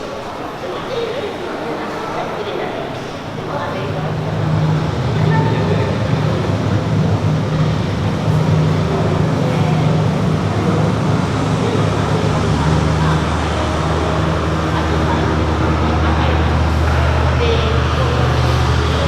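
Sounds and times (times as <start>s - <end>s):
road noise: 0.0s - 19.0s
vehicle engine drone: 2.8s - 19.0s.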